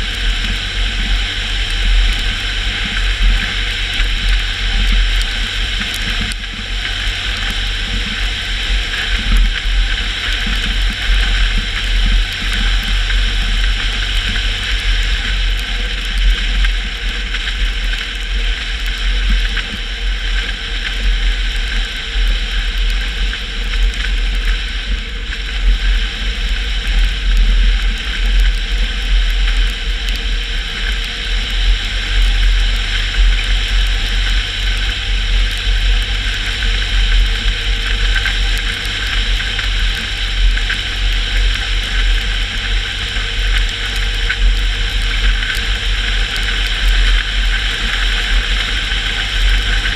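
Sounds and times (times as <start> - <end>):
car engine drone: 0.0 - 49.9.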